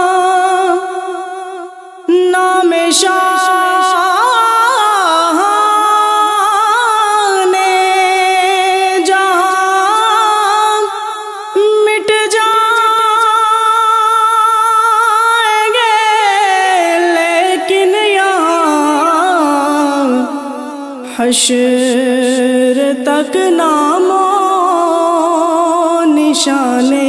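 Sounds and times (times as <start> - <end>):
person singing wordless notes: 0.0 - 27.0.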